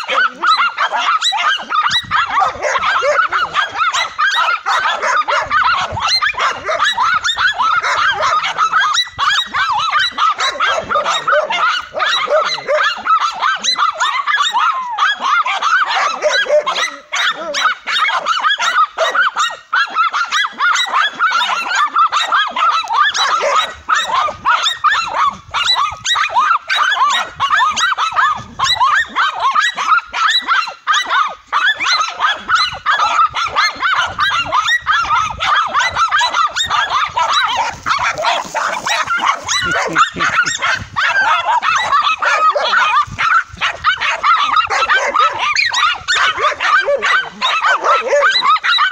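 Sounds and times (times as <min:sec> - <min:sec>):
dogs barking and yapping: 0:00.0 - 0:48.9.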